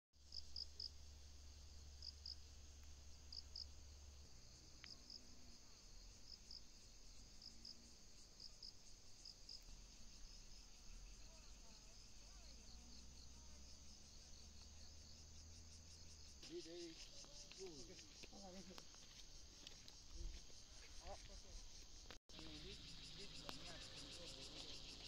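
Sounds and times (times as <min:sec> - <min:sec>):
insects trilling: 0:00.2 - 0:25.0.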